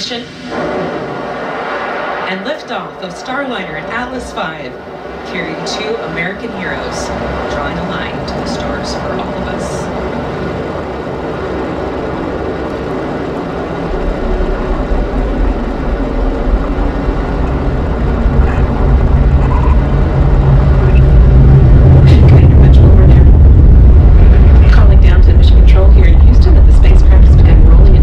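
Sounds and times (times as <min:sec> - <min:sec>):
rocket launch roar: 0:00.0 - 0:28.0.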